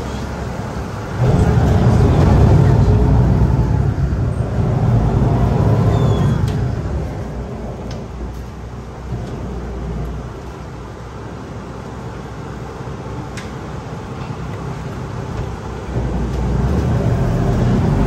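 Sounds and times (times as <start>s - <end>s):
heavy engine rumble: 0.0s - 18.0s
traffic noise: 0.0s - 18.0s.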